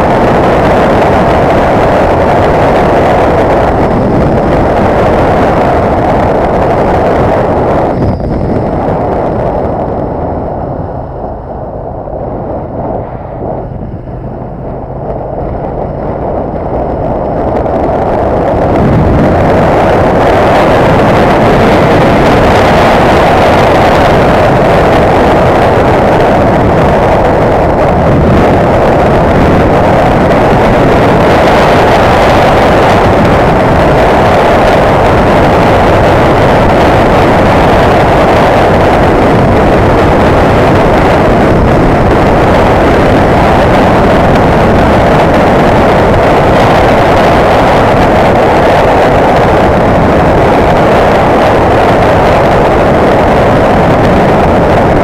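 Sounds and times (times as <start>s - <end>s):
motorcycle engine riding: 0.0s - 55.0s
wind rushing over microphone: 0.0s - 55.0s.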